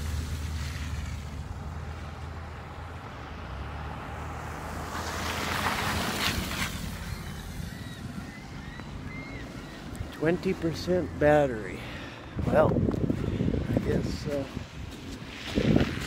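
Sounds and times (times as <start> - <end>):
vehicle engine humming: 0.0 - 15.5.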